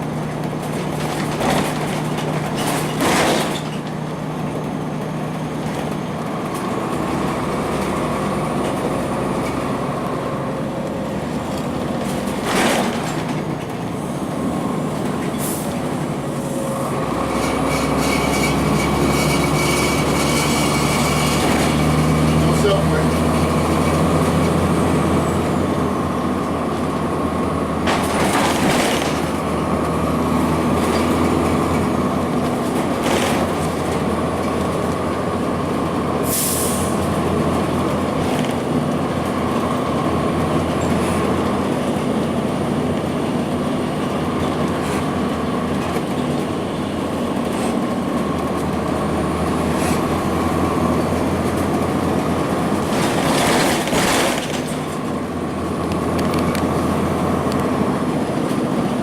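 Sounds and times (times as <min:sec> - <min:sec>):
bus diesel engine running: 0:00.0 - 0:59.0
engine whine: 0:00.0 - 0:59.0.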